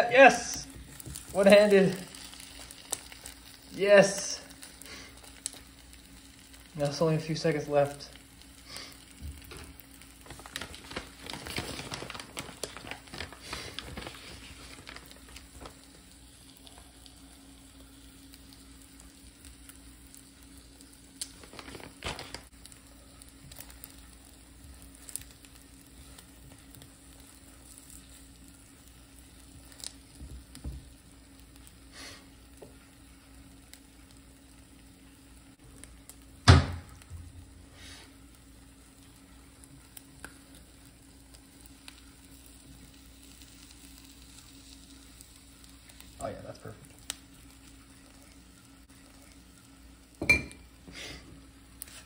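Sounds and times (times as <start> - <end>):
omelette sizzling in skillet: 0.0 - 52.0.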